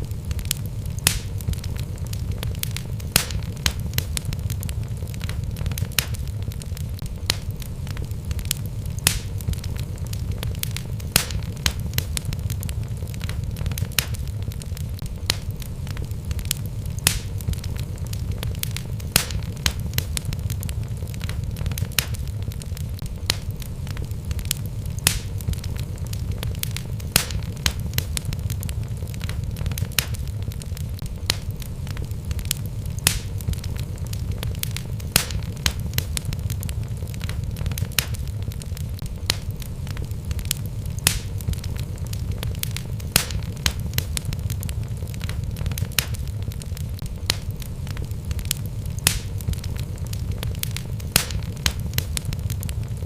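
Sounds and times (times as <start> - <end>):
logs crackling and popping: 0.0 - 53.0
low rumble of flames: 0.0 - 53.0.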